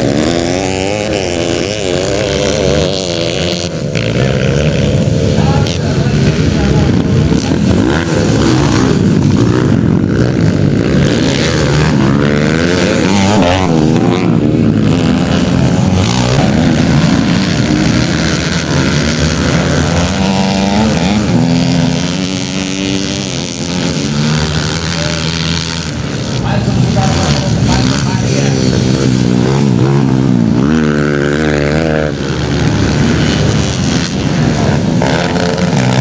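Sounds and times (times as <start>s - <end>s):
motocross bike engines revving: 0.0s - 36.0s.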